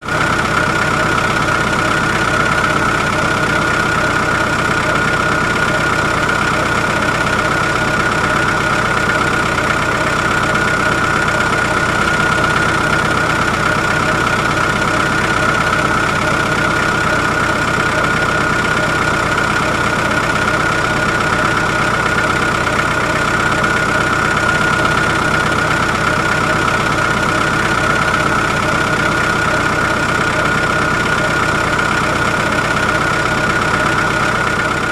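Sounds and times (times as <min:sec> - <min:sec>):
motor whining and rumbling: 0:00.0 - 0:34.9.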